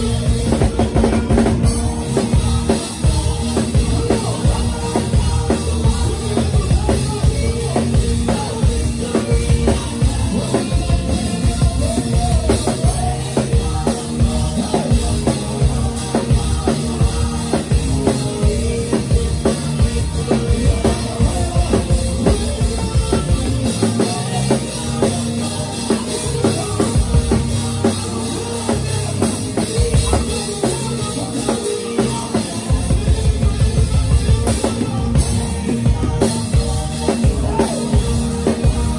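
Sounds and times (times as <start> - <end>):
bass: 0.0 - 38.9
drum kit beat: 0.0 - 38.9.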